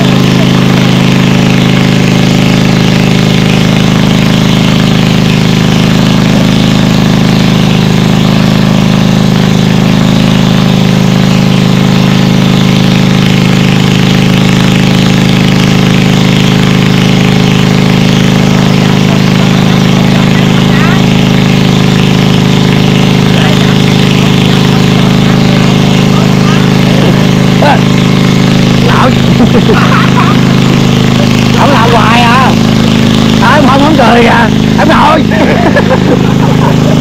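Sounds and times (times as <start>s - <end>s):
water pump engine running: 0.0s - 37.0s.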